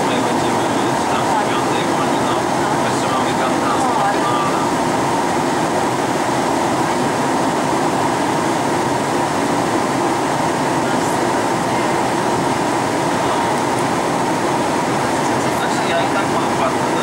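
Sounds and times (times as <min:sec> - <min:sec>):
airflow rush in aircraft cabin: 0:00.0 - 0:17.0
jet engines humming: 0:00.0 - 0:17.0.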